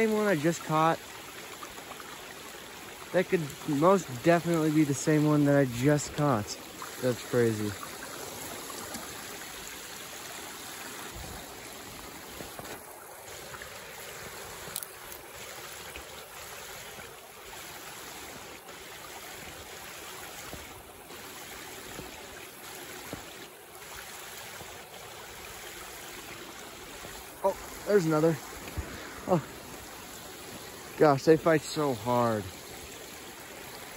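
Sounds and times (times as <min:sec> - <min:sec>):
running water rushing: 0:00.0 - 0:33.9.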